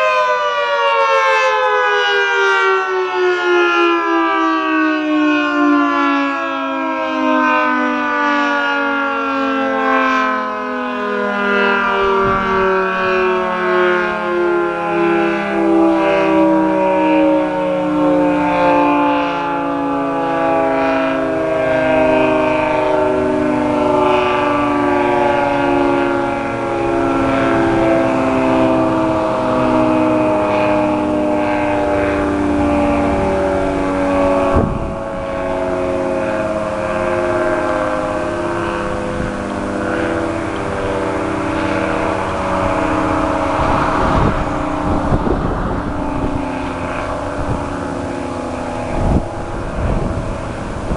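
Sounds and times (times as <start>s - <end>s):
warning siren winding down: 0.0s - 50.9s.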